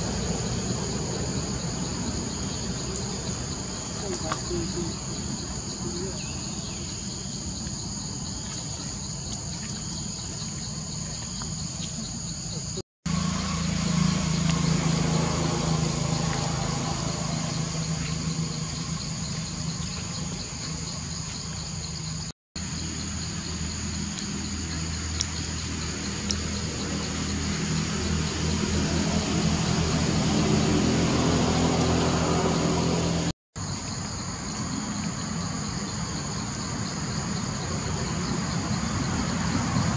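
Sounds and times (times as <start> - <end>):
low engine hum: 0.0 - 33.3
high insect drone: 0.0 - 39.9.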